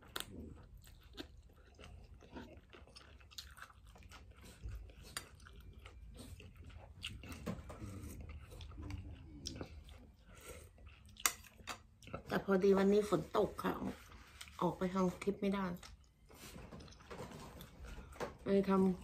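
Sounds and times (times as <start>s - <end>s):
person chewing food: 0.0s - 14.6s, 15.8s - 19.0s.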